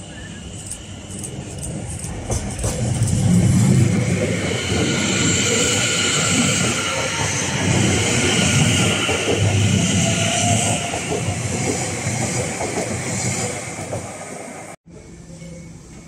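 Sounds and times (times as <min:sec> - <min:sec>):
train wheels rumbling on rails: 0:00.0 - 0:14.8
hiss of rail and air noise: 0:00.0 - 0:16.0.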